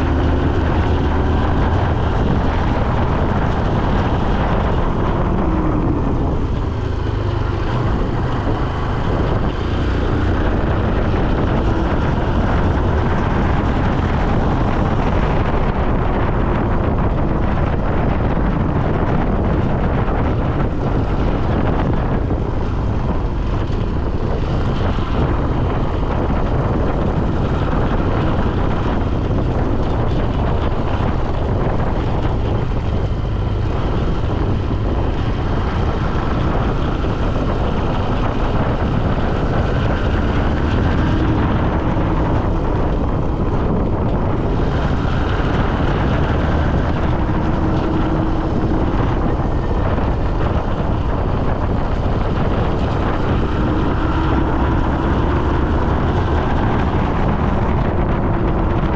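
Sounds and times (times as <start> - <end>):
loud wind buffeting microphone: 0.0 - 58.9.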